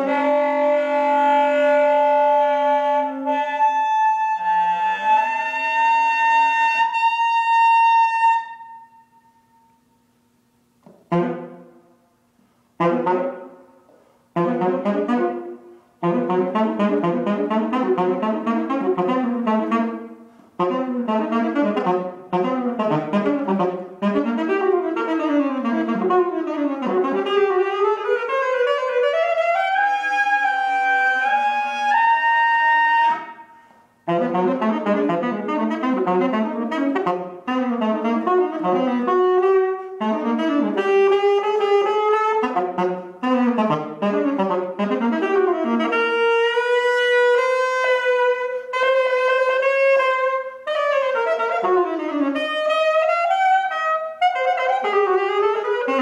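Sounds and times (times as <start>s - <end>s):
alto saxophone playing: 0.0s - 10.0s, 10.6s - 56.0s.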